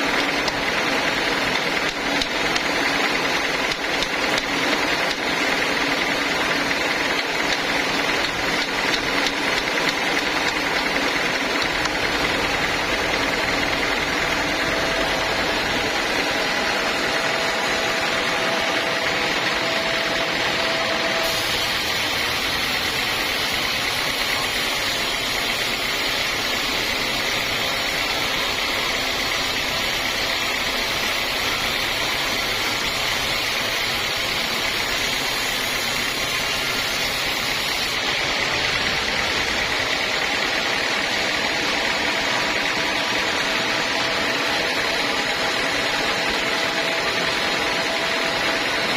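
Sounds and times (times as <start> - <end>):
sawmill machinery running: 0.0 - 48.9.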